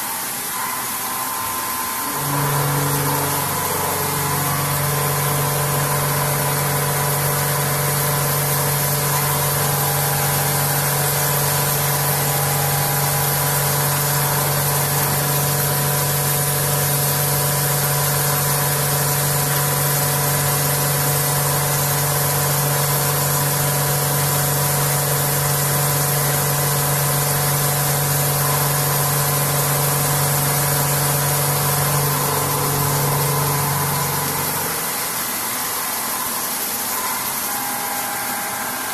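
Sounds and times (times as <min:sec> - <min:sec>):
milling machine hum with tones: 0:00.0 - 0:38.9.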